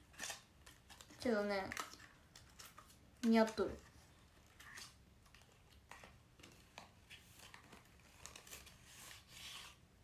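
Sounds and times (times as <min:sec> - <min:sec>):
packaging rustling and crinkling: 0:00.0 - 0:09.8.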